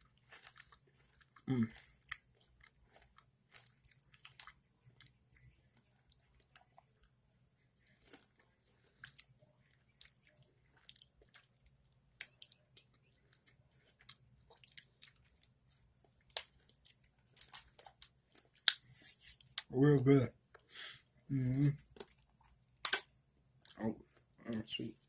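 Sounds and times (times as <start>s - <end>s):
person chewing crunchy candy: 0.0s - 19.7s, 21.6s - 23.9s.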